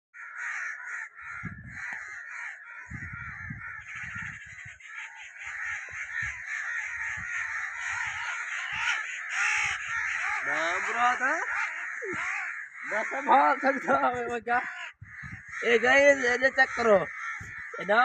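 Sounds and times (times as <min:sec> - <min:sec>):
crows cawing: 0:00.2 - 0:18.0.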